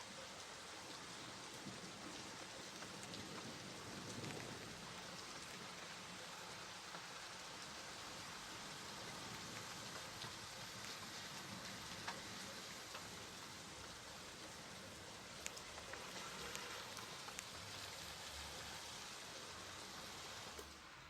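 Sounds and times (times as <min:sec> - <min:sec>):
steady rain falling: 0:00.0 - 0:21.0
raindrops ticking: 0:00.3 - 0:20.8.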